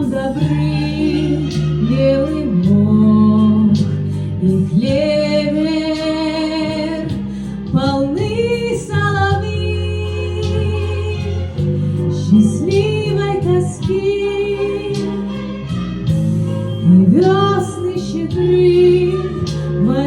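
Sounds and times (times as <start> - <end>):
woman singing: 0.0 - 15.8, 16.8 - 20.0
instrumental accompaniment: 0.0 - 20.0.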